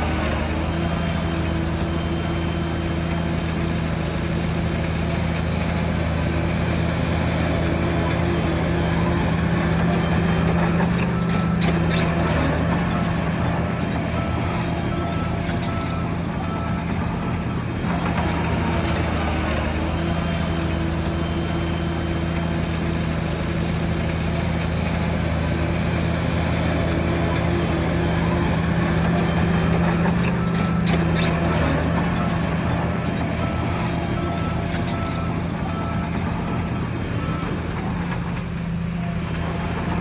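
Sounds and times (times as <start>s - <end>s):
reversing alarm beeping: 0.0s - 23.2s, 26.6s - 39.8s
heavy diesel engine under load: 0.0s - 40.0s.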